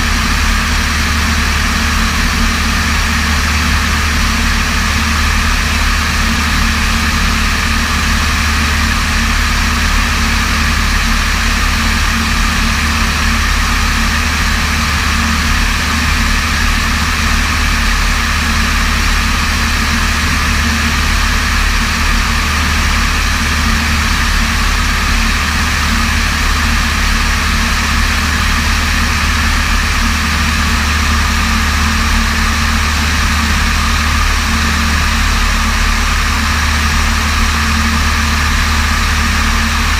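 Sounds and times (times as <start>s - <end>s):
propeller aircraft engine humming: 0.0s - 39.9s.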